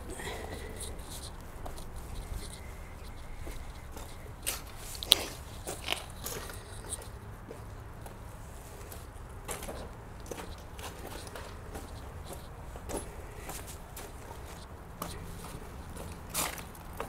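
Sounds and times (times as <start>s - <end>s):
footsteps crunching on gravel: 0.3s - 17.0s.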